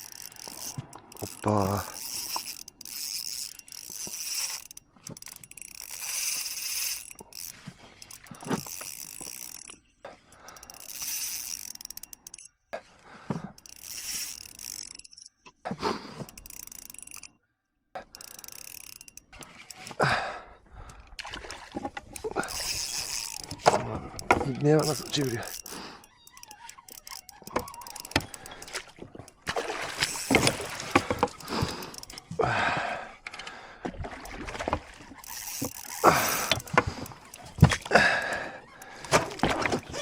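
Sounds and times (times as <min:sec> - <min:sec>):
fishing reel whirring and ratcheting: 0:00.0 - 0:12.5, 0:13.5 - 0:15.4, 0:16.2 - 0:17.4, 0:18.0 - 0:20.1, 0:20.8 - 0:32.4, 0:34.2 - 0:40.0.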